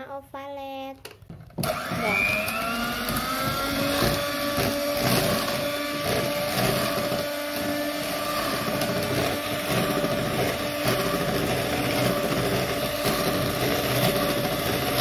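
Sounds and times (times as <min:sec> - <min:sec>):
electric hand mixer whining: 0:01.5 - 0:15.0.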